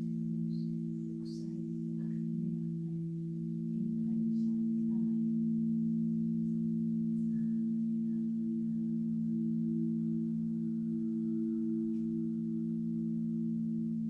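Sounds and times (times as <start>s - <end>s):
crystal singing bowls ringing: 0.0s - 14.0s.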